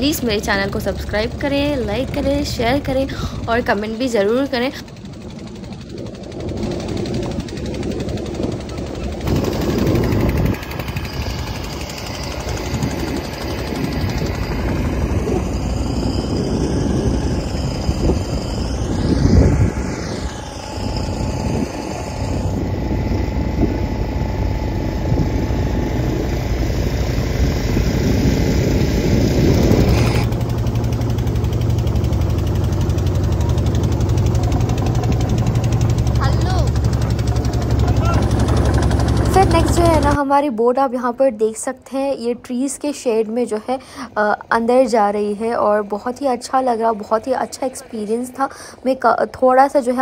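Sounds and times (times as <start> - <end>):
motor boat engine droning: 0.0 - 40.4.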